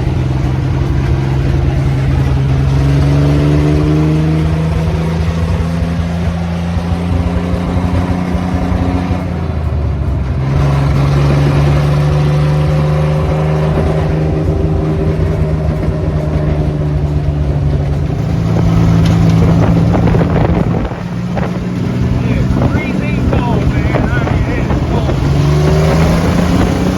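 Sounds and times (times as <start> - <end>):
truck engine running loud: 0.0 - 26.9.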